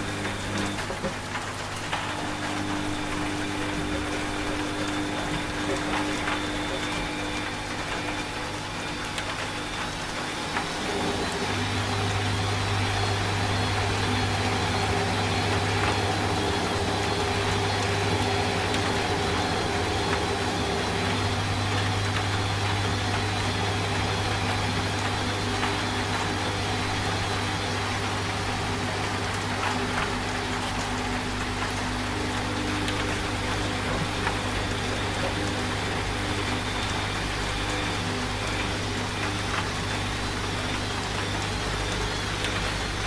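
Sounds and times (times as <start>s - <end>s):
rain hissing: 0.0s - 43.0s
washing machine motor humming: 0.0s - 43.0s.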